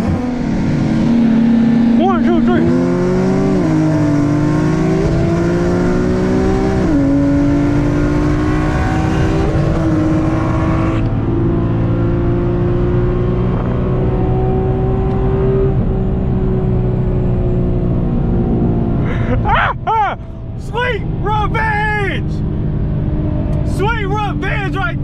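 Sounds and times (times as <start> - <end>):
sports car engine at full throttle: 0.0 - 25.0.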